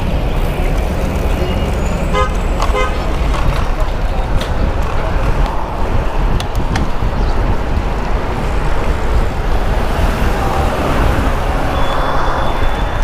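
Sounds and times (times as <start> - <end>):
cars passing: 0.0 - 13.0
traffic road noise: 0.0 - 13.0
wind rumble on microphone: 0.0 - 13.0.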